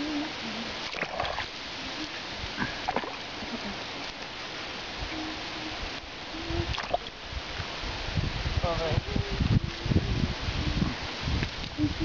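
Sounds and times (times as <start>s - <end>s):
steady hiss: 0.0s - 12.0s
water splashes and drips: 0.0s - 12.0s.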